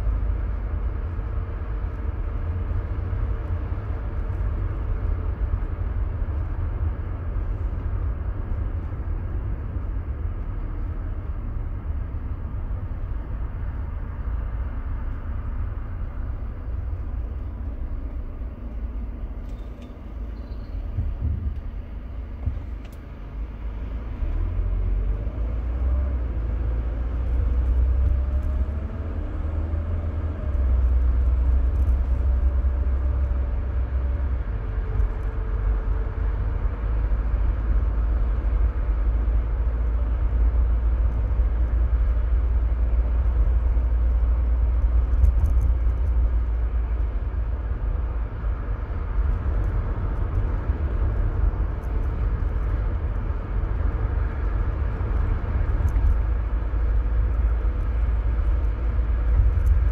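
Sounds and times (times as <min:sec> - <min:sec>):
car engine running: 0:00.0 - 0:59.9
road rumble: 0:00.0 - 0:59.9.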